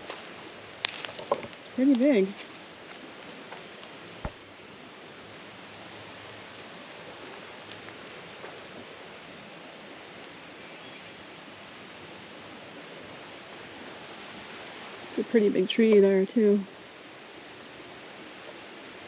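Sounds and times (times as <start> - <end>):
creek flowing: 0.0 - 19.0.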